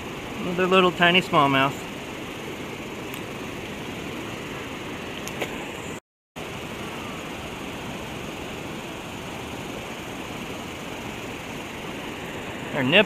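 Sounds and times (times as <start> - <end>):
fast-flowing river rushing: 0.0 - 13.0.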